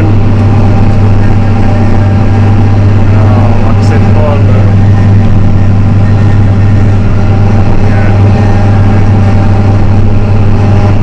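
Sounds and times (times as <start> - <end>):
forage harvester running: 0.0 - 11.0
tractor engine drone: 0.0 - 11.0.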